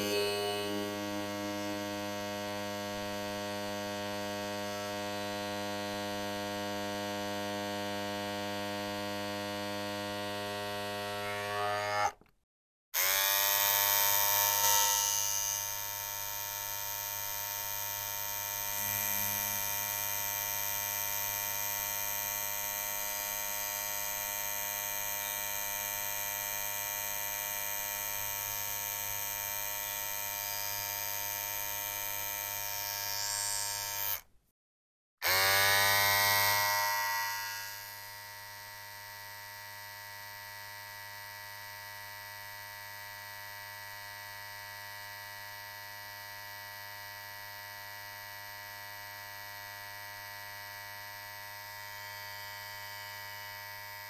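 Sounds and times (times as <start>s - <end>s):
electric shaver buzzing: 0.0s - 12.3s, 13.0s - 34.3s, 35.2s - 54.0s.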